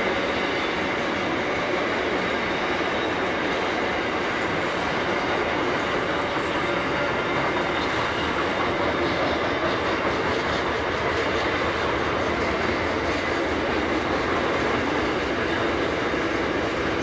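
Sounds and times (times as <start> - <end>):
freight train wagons rolling: 0.0 - 17.0.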